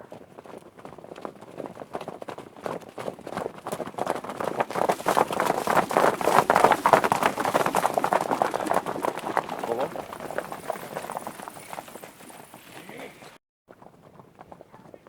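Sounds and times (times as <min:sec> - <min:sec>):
horses galloping: 0:00.0 - 0:15.0.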